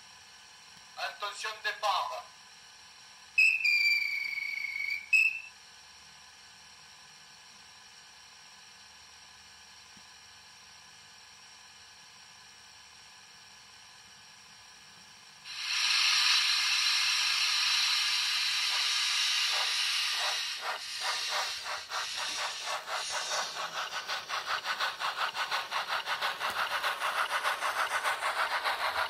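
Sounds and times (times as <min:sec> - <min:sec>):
loud steady steam hiss: 0:00.0 - 0:29.0
steam locomotive exhaust chuffs: 0:02.6 - 0:09.8, 0:10.4 - 0:29.0.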